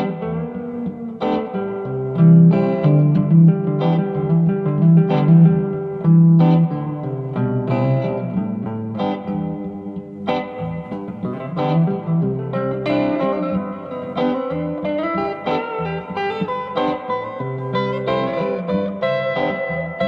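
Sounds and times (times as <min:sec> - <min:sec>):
electric guitar notes and chords: 0:00.0 - 0:20.0.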